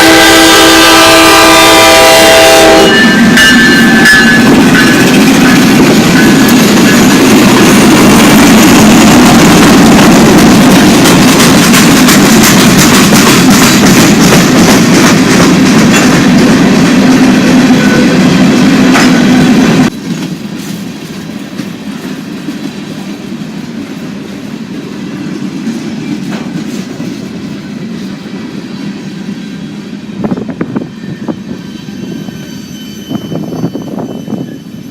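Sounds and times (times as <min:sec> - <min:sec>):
train wheels clicking over rails: 0:02.8 - 0:32.4.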